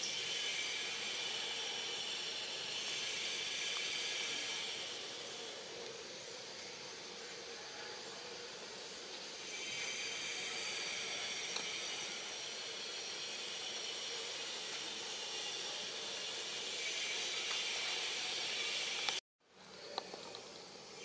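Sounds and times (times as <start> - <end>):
dense insect chorus: 0.0 - 21.0.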